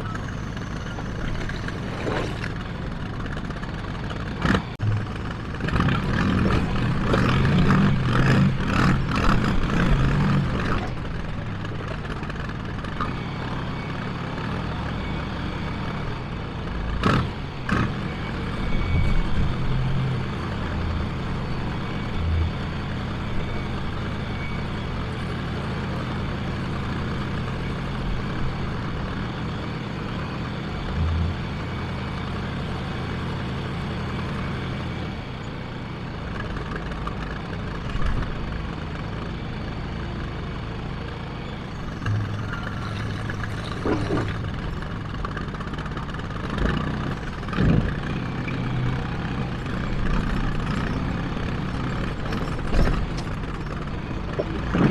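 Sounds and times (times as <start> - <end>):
backhoe diesel engine revving: 0.0 - 54.9.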